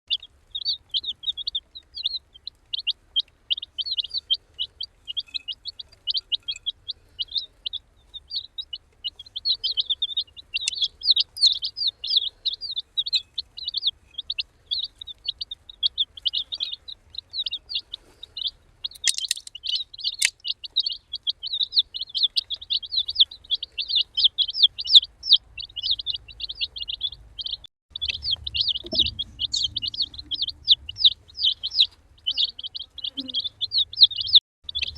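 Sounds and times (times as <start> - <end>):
baby chicks peeping: 0.1 - 34.9.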